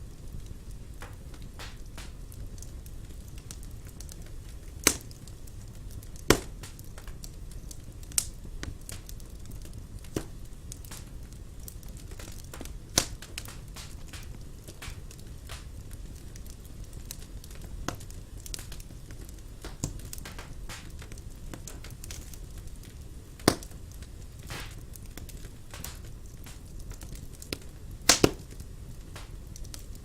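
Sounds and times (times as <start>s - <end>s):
wood fire crackling: 0.0s - 30.0s
sharp fire pops: 0.1s - 30.0s.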